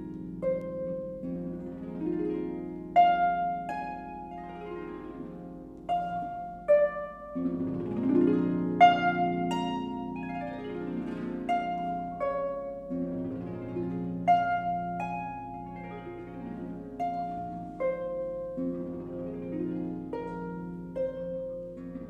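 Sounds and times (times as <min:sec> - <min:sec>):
harp playing: 0:00.0 - 0:22.0.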